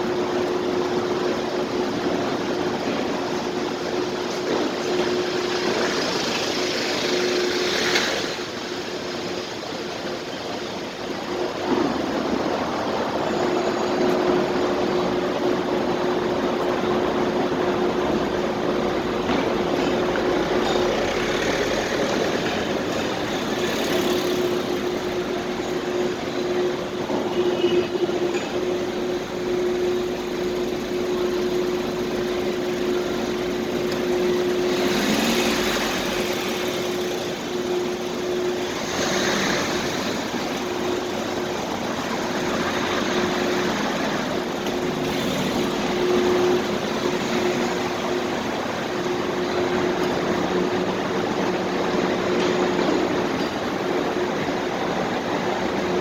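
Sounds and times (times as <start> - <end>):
steady hum: 0.0 - 56.0
vehicles moving: 0.0 - 56.0.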